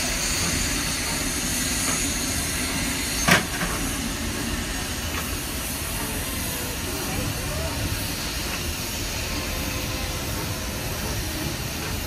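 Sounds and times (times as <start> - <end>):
steam hissing: 0.0 - 12.0
steam locomotive rolling past: 0.0 - 12.0.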